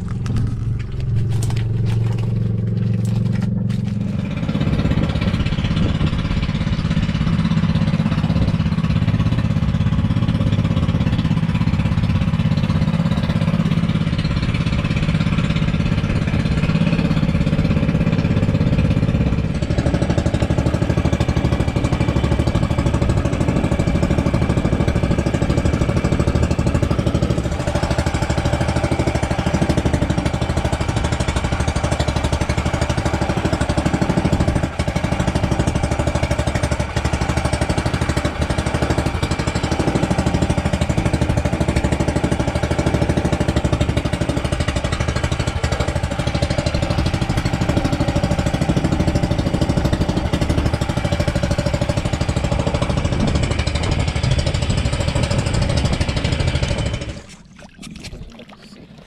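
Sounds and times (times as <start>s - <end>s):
boat engine chugging: 0.0s - 59.0s.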